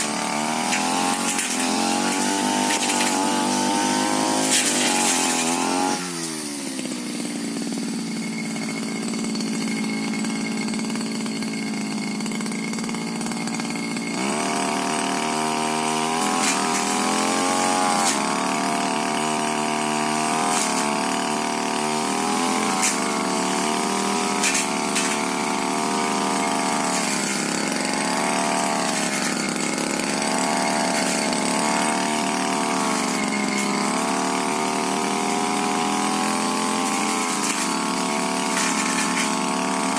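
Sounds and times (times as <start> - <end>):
brush cutter engine: 0.0 - 39.9.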